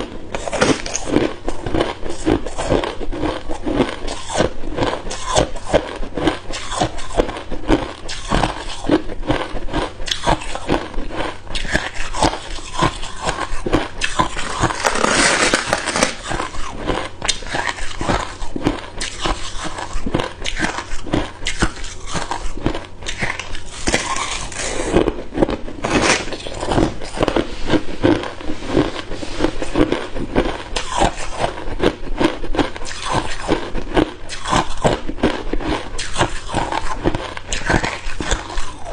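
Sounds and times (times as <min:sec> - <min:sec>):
chewing ice cubes crunching: 0:00.0 - 0:38.9.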